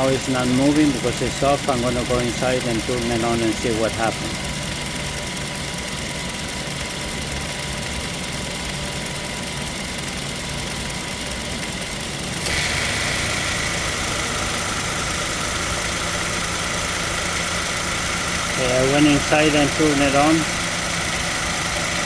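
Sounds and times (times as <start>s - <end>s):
car engine idling: 0.0s - 22.0s
compressor whine: 0.0s - 22.0s.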